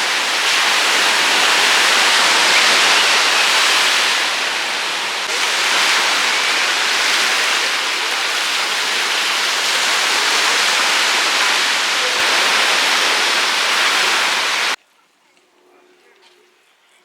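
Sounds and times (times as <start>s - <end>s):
water rushing: 0.0s - 14.8s.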